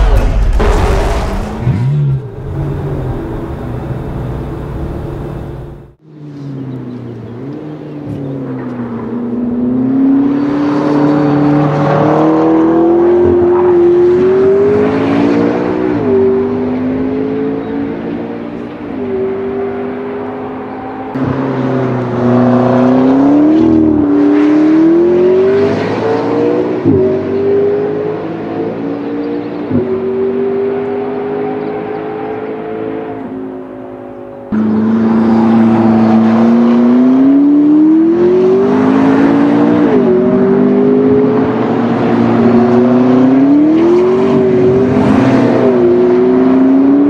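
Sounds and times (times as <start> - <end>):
sports cars accelerating through gears: 1.6 - 47.0.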